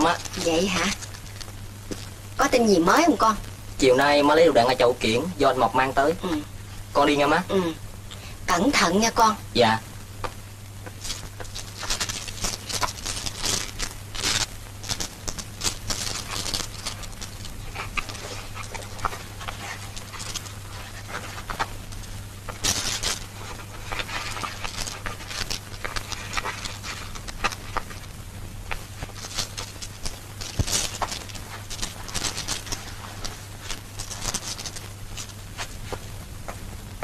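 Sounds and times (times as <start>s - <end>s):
cloth and leaves rustling: 0.0s - 6.2s, 10.7s - 37.0s
steady low hum: 0.0s - 37.0s.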